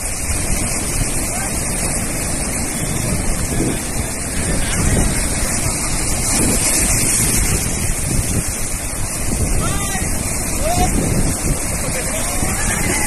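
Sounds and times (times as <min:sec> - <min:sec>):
sea rushing: 0:00.0 - 0:13.0
wind buffeting microphone: 0:00.0 - 0:13.0.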